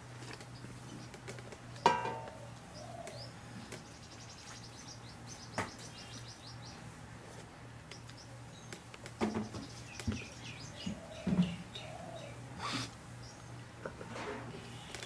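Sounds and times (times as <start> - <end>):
small birds chirping: 0.1 - 14.0, 14.6 - 15.0.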